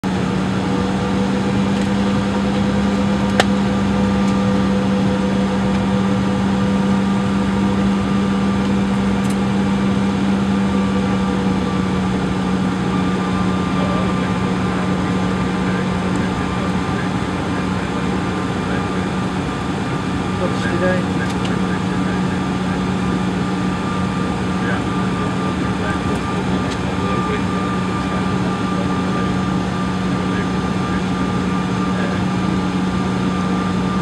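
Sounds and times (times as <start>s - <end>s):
cabin air-conditioning: 0.0s - 34.0s
jet engines idling: 0.0s - 34.0s
low hum: 0.0s - 34.0s.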